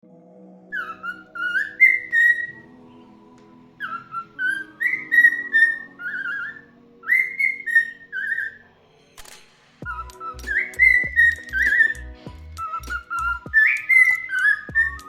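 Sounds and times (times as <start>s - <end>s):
cockatiel whistling a tune: 0.7s - 3.0s, 3.8s - 8.6s, 9.8s - 15.0s.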